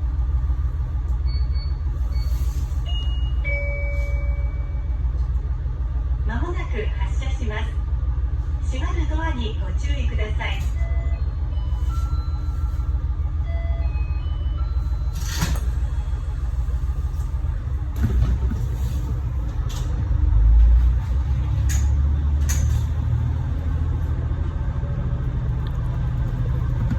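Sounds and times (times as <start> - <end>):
diesel railcar engine rumbling: 0.0 - 26.9.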